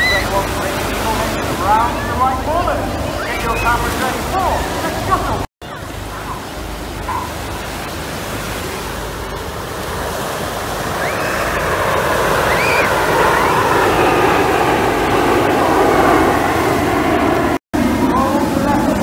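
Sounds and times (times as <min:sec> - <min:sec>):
jets passing overhead: 0:00.0 - 0:19.0.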